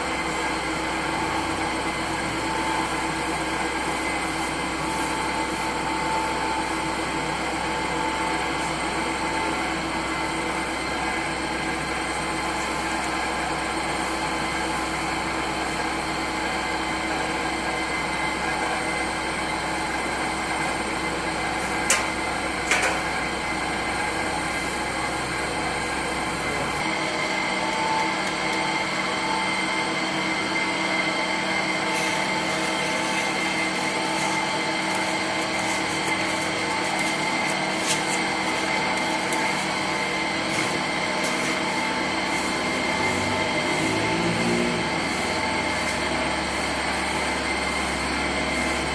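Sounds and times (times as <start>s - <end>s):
electric dough mixer motor humming: 0.0s - 48.9s.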